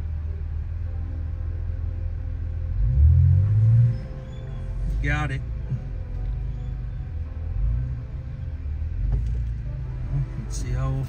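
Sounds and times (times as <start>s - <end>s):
low vehicle rumble: 0.0s - 11.0s
slow ambient music: 0.0s - 11.0s.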